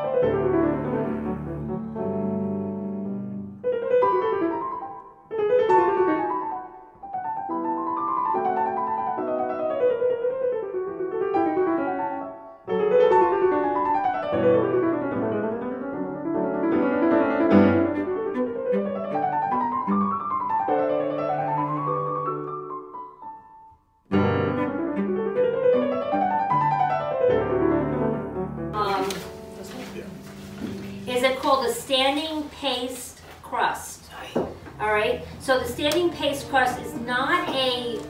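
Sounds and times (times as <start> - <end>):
classical solo piano music: 0.0 - 32.5, 34.3 - 38.0.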